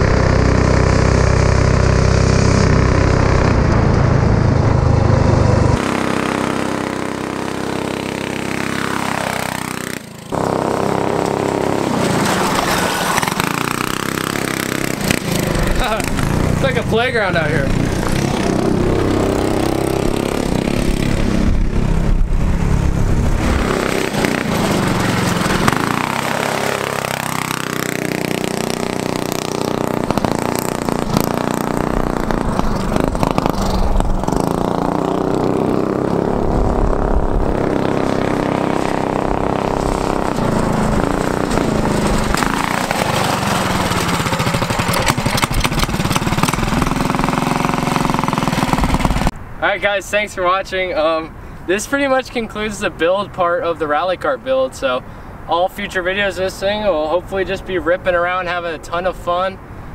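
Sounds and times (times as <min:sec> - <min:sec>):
go-kart engine revving: 0:00.0 - 0:49.4.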